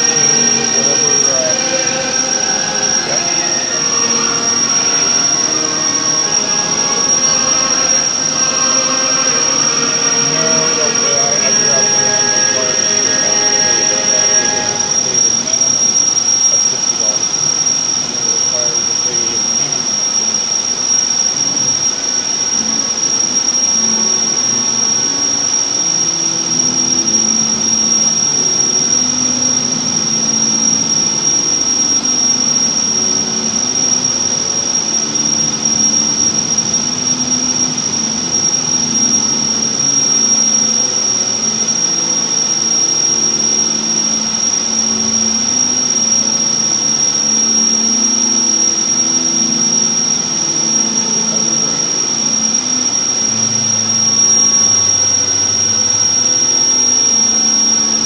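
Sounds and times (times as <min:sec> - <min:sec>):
high-pitched whine: 0:00.0 - 0:58.0.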